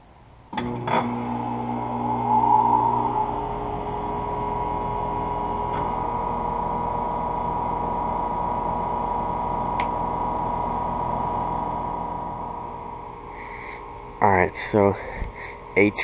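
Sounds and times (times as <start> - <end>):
air conditioner fan whirring: 0.0 - 16.0
compressor hum: 0.6 - 16.0.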